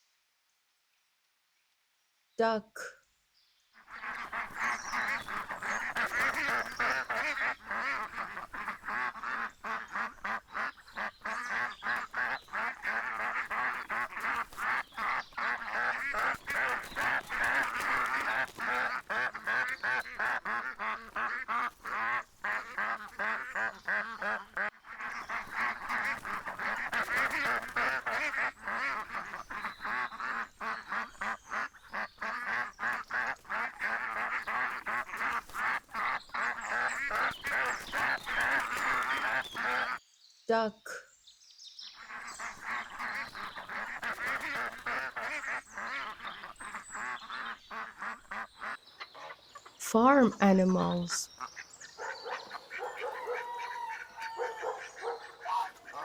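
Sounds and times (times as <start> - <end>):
flock of ducks quacking: 3.8 - 40.0, 42.0 - 56.0.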